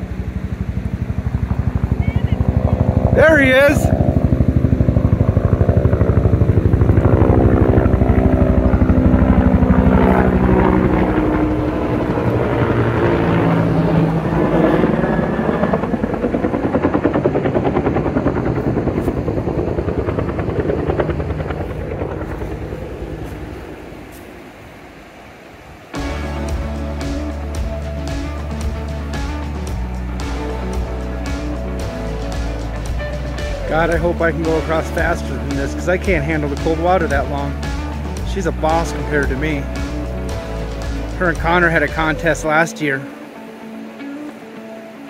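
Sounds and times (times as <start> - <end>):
loud pulsing motor passing: 0.0 - 25.0, 25.9 - 45.0.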